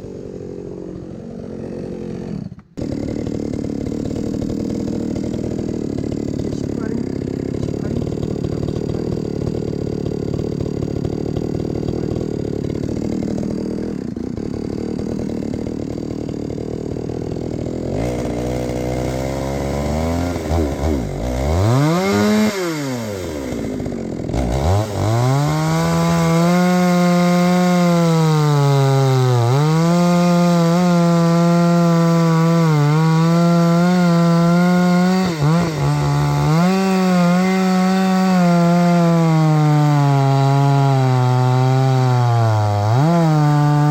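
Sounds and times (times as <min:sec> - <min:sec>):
chainsaw cutting wood: 0:00.0 - 0:43.9
chainsaw idling and revving: 0:00.0 - 0:43.9.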